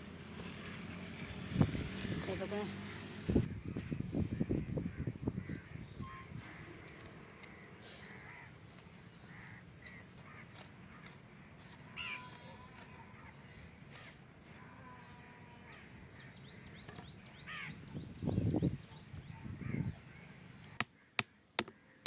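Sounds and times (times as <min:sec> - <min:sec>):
birds calling: 0:02.1 - 0:22.0.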